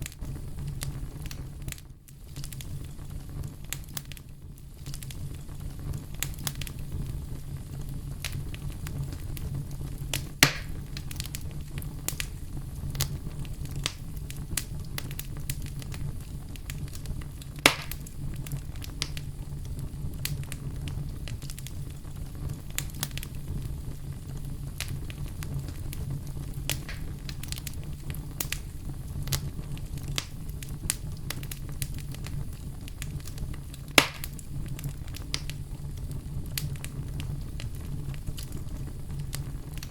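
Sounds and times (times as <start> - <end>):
bonfire crackling: 0.0 - 39.9
fire popping: 0.0 - 39.9
low rumble of flames: 0.0 - 39.9.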